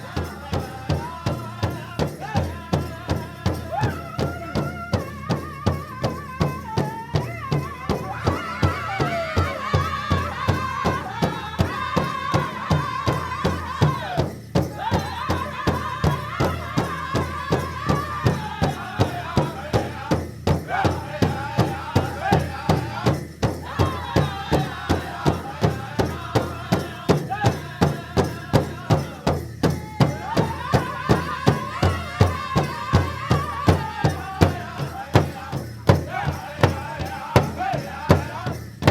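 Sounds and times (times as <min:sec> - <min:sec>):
steady drumbeat: 0:00.0 - 0:38.9.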